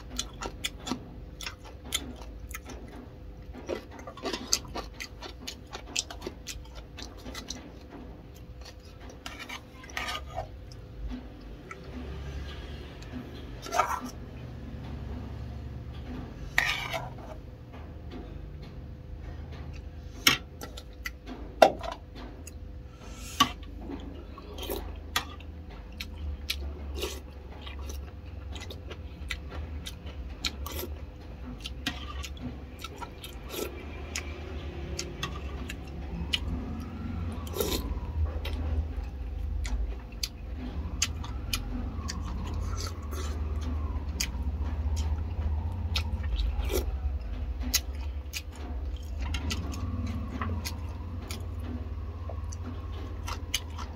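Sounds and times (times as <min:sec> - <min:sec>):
person chewing: 0:00.0 - 0:15.1, 0:22.4 - 0:53.9
steady low hum: 0:00.0 - 0:53.9.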